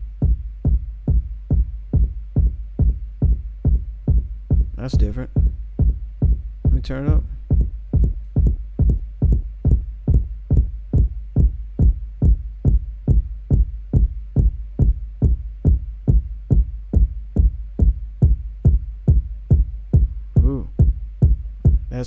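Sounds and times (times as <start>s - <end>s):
electronic kick drum: 0.0s - 22.0s.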